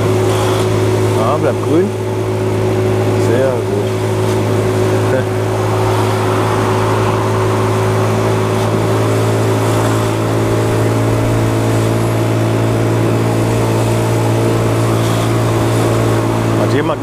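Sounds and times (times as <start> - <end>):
motor scooter engine running: 0.0 - 17.0.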